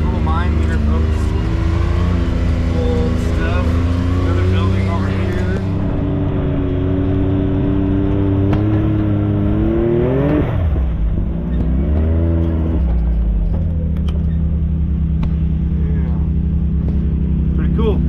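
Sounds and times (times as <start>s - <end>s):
utility vehicle engine revving: 0.0s - 18.0s.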